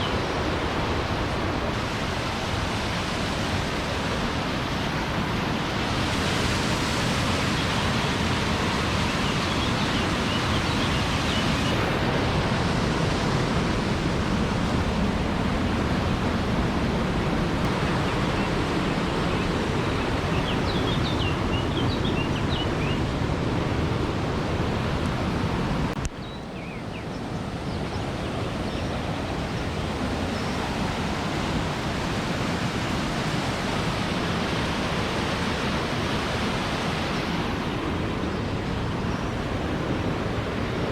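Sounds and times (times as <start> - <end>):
waterfall rushing: 0.0 - 26.1, 28.1 - 40.9.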